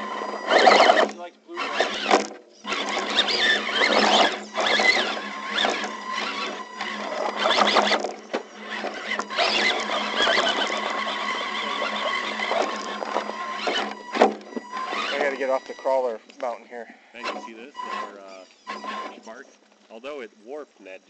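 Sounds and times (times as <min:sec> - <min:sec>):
rc car electric motor whining: 0:00.0 - 0:16.5, 0:17.2 - 0:21.0.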